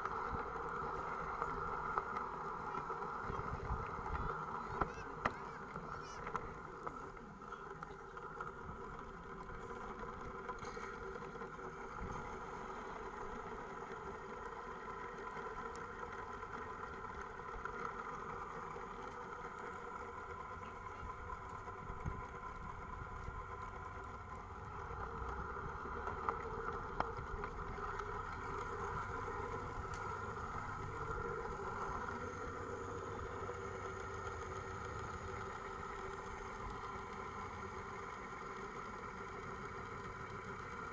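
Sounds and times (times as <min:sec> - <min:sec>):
model train mechanical whine: 0:00.0 - 0:40.9
wheel and rail noise: 0:00.0 - 0:40.9.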